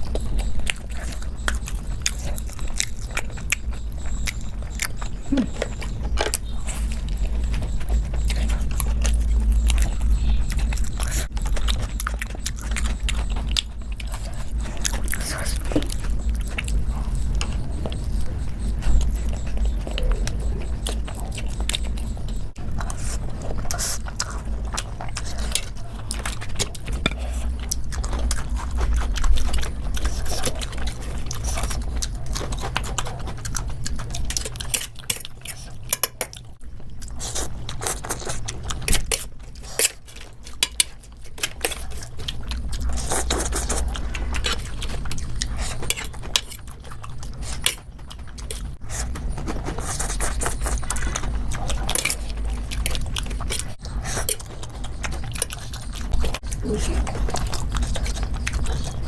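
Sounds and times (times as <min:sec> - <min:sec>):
chewing and biting: 0:00.0 - 0:59.0.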